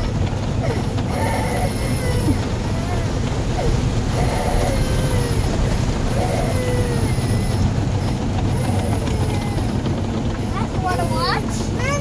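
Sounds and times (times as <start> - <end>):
car wash rumble: 0.0 - 12.0
high hiss of car wash: 0.2 - 12.0.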